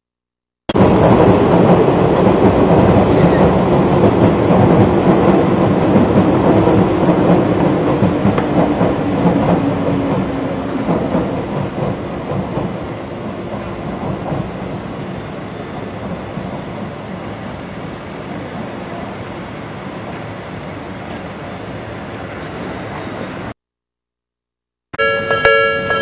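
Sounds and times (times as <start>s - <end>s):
electric train rumbling on rails: 0.7s - 23.6s, 25.0s - 26.0s.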